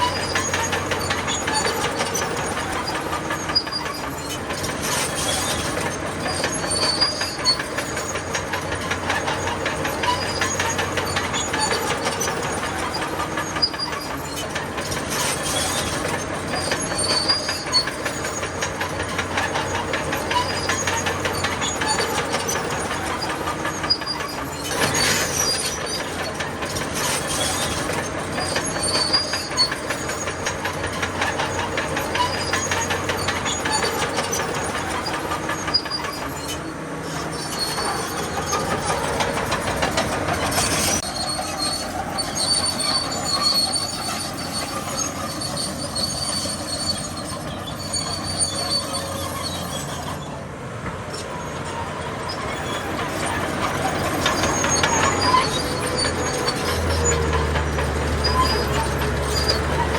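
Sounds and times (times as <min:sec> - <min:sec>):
bulldozer diesel engine hum: 0:00.0 - 0:59.9
crawler tracks clanking: 0:00.0 - 0:59.9.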